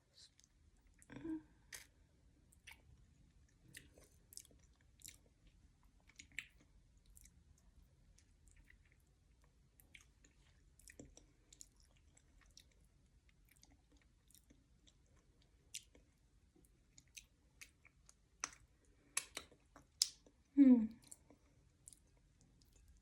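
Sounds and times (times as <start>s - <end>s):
chewing mouth clicks and smacks: 2.5s - 2.9s, 3.5s - 16.2s, 16.9s - 20.4s, 21.0s - 23.0s.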